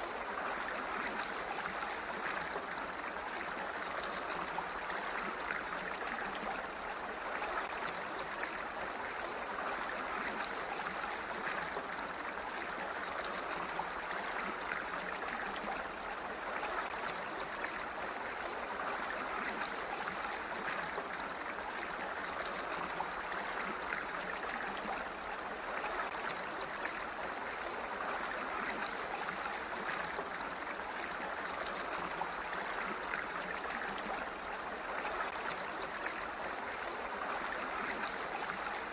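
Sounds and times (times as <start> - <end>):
water flowing steadily: 0.0 - 38.9.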